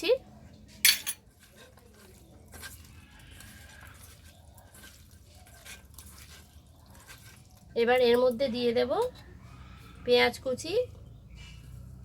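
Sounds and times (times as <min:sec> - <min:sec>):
wet squishing of kneaded meat: 0:00.2 - 0:12.0.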